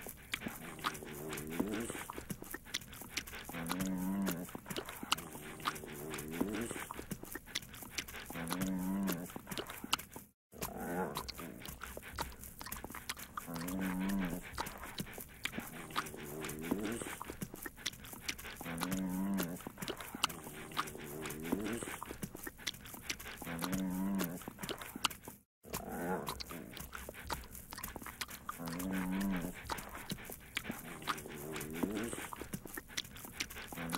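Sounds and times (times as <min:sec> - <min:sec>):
dog licking and smacking lips: 0:00.0 - 0:33.9
low dog vocal calls: 0:00.0 - 0:33.9.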